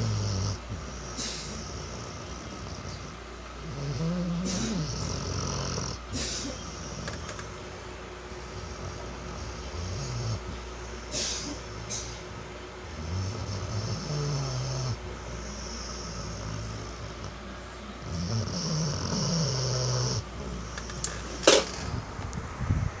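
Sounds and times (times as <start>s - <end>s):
dog snoring: 0.0s - 7.6s, 8.4s - 12.2s, 12.8s - 17.4s, 18.0s - 21.1s.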